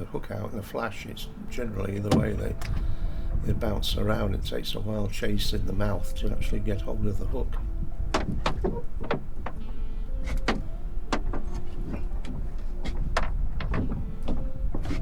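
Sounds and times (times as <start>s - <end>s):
steady low rumble: 0.0s - 14.8s.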